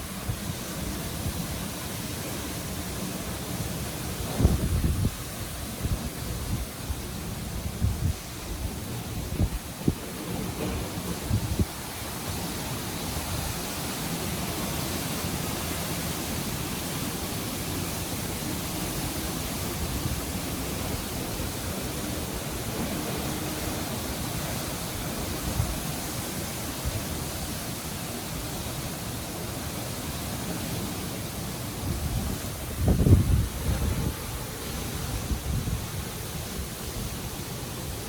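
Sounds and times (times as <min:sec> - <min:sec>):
strong wind through trees: 0:00.0 - 0:38.0.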